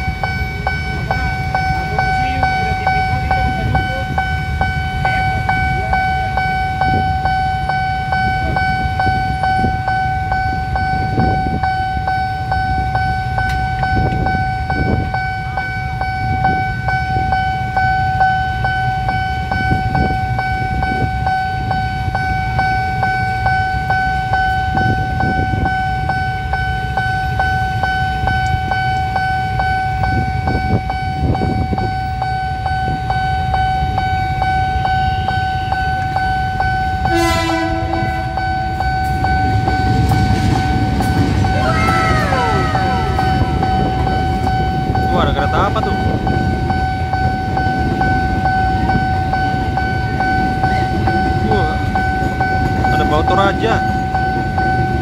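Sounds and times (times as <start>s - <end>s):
motorbikes idling: 0.0s - 25.2s, 25.9s - 55.0s
level crossing alarm tone: 0.0s - 55.0s
traffic idling: 0.0s - 55.0s.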